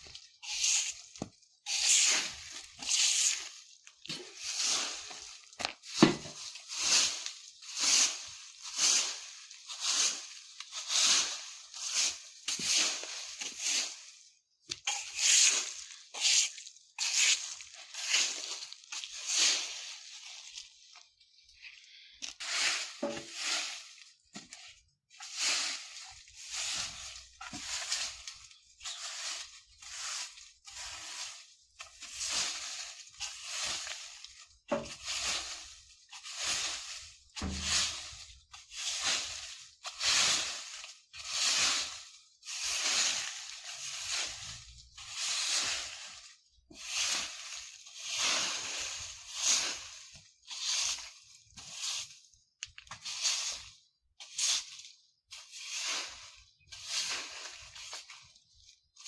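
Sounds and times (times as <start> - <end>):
broom sweeping leaves: 0.0 - 21.4, 22.2 - 52.4, 53.0 - 59.0.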